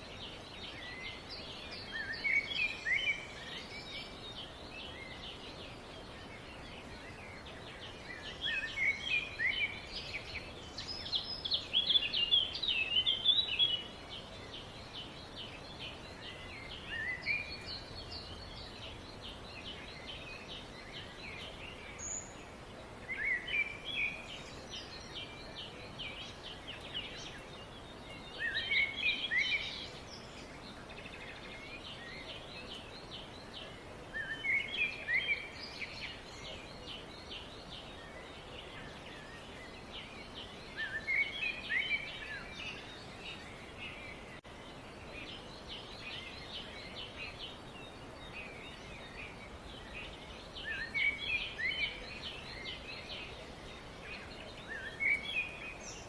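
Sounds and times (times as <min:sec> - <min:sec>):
bird song phrase: 0:00.0 - 0:56.0
birds twittering and chirping: 0:00.0 - 0:56.0.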